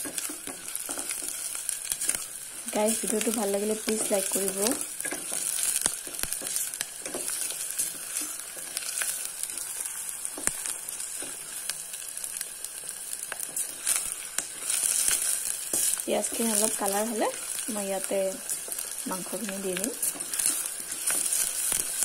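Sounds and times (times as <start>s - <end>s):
wooden spatula stirring: 0.0s - 11.8s, 12.7s - 22.0s
onion and garlic sizzling in oil: 0.0s - 22.0s.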